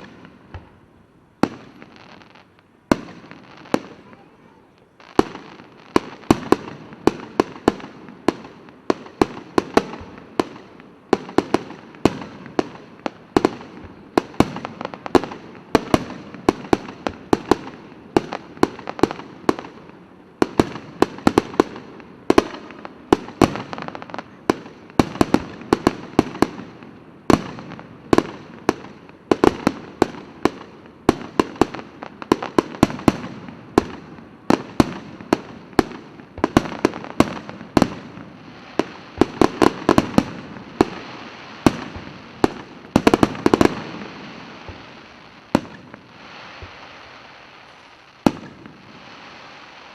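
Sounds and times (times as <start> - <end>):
fireworks crackling: 0.0 - 49.9
fireworks exploding: 0.0 - 49.9.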